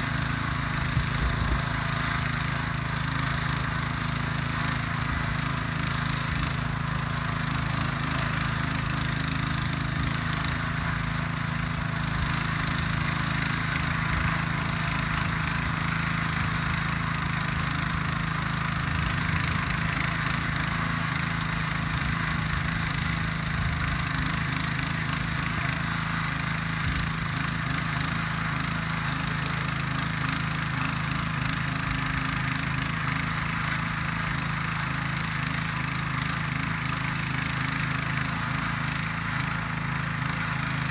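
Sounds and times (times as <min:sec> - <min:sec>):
rotary tiller engine running: 0:00.0 - 0:40.9
tines churning dry soil: 0:00.0 - 0:40.9.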